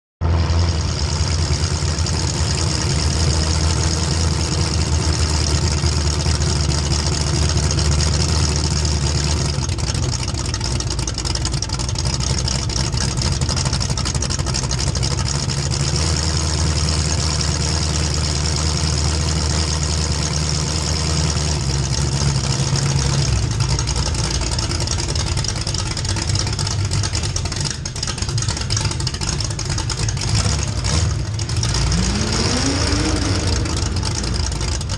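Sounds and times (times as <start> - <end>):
race car engine running: 0.2 - 34.9.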